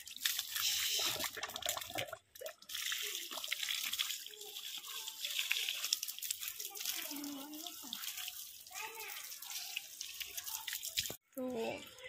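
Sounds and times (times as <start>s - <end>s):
water splashing on concrete: 0.0s - 11.2s.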